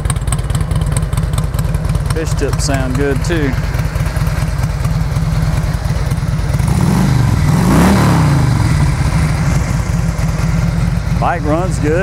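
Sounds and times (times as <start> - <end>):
motorcycle engine idling: 0.0 - 12.0
motorcycle throttle revving: 0.0 - 12.0.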